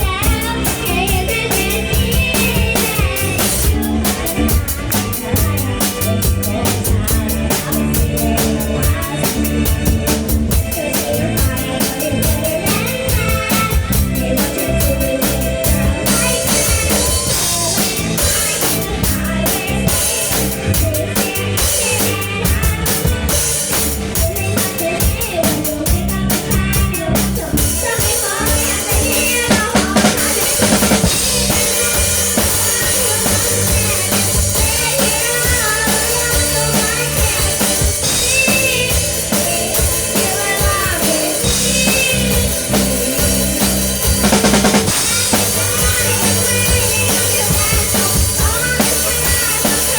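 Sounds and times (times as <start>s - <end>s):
bass guitar: 0.0s - 49.9s
drum kit beat: 0.0s - 49.9s
electric guitar: 0.0s - 49.9s
keyboard: 0.0s - 49.9s
pitch-bending lead line: 0.0s - 49.9s.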